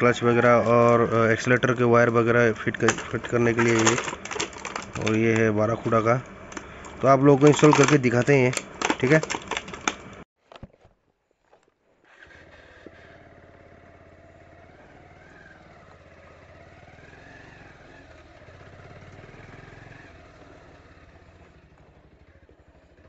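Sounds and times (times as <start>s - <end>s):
motorcycle engine at low speed: 0.0s - 23.0s.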